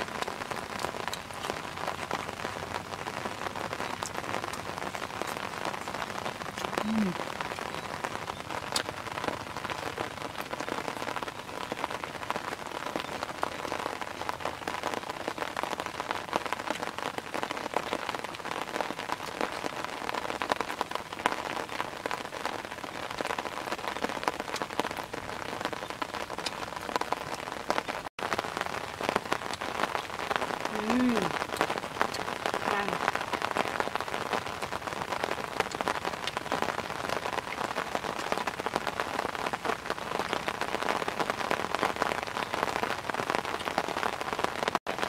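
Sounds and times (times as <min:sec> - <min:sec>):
steady rain patter: 0:00.0 - 0:45.0.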